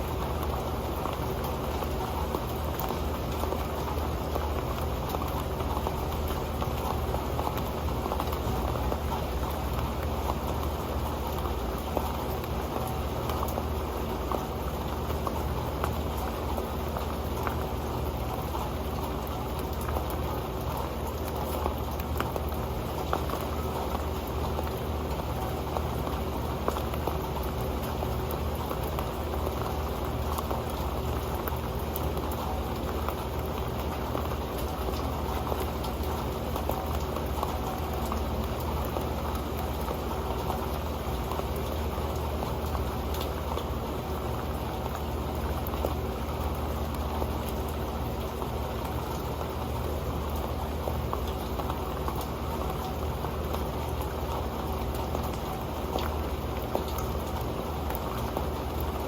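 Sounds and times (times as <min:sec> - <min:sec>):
rain tapping on a pan: 0:00.0 - 0:59.0.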